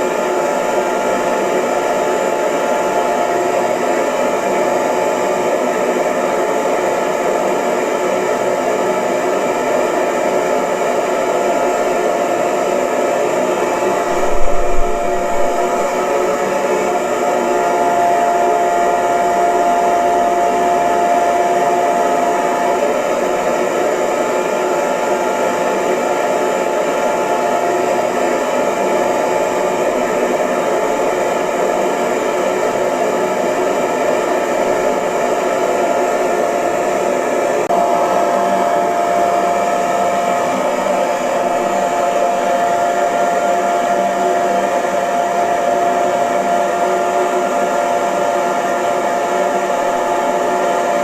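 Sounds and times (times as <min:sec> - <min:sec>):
hair dryer blowing: 0:00.0 - 0:51.0
hair dryer motor whine: 0:00.0 - 0:51.0.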